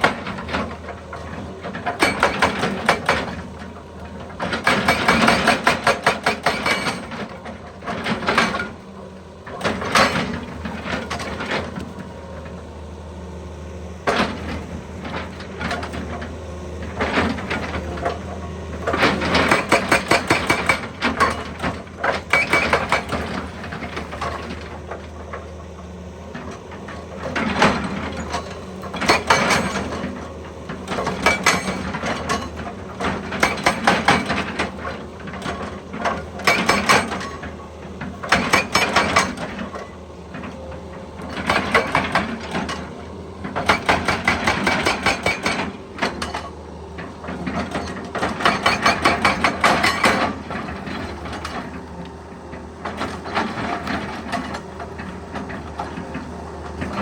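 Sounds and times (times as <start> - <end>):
hydraulic breaker hammering rock: 0.0 - 12.5, 14.0 - 25.6, 26.4 - 52.0, 52.6 - 57.0.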